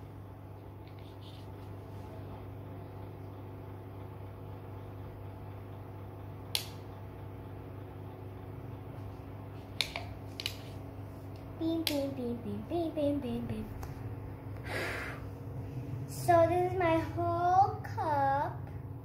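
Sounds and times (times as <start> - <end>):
low mechanical hum of fan: 0.0 - 19.0.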